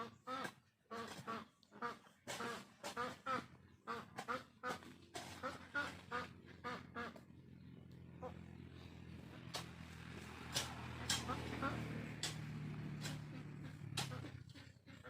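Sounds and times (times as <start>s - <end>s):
rapid repeated animal calls: 0.0s - 9.9s, 10.5s - 15.0s.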